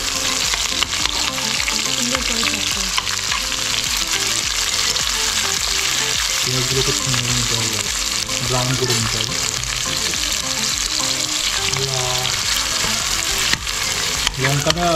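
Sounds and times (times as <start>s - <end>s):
onions sizzling in oil: 0.0s - 14.9s.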